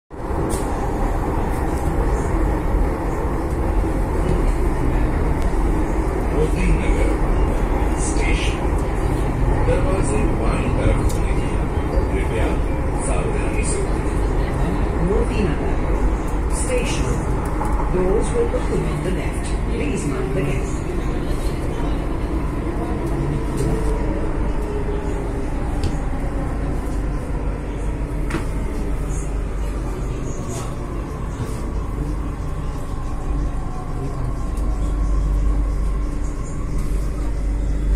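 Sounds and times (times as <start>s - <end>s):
train wheels rumbling on rail: 0.1s - 37.9s.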